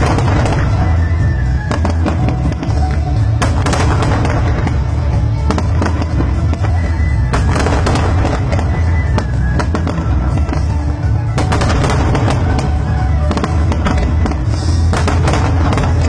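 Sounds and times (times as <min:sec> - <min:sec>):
fireworks cracking and crackling: 0:00.0 - 0:16.0
music playing: 0:00.0 - 0:16.0.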